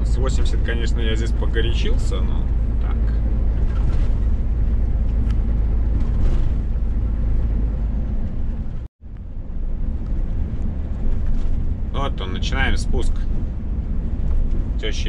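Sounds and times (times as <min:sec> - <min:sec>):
road noise: 0:00.0 - 0:15.0
truck engine rumble: 0:00.0 - 0:15.0.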